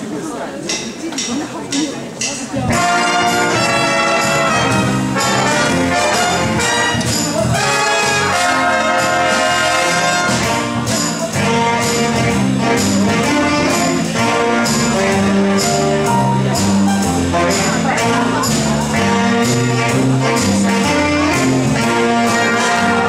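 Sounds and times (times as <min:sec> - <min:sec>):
jazz big band playing: 0:02.0 - 0:23.0.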